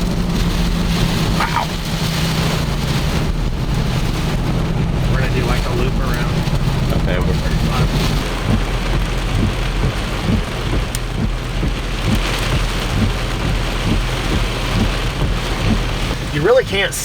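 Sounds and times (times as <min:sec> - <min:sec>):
low thunder rumble: 0:00.0 - 0:16.6
torrential rain pouring: 0:00.0 - 0:17.0.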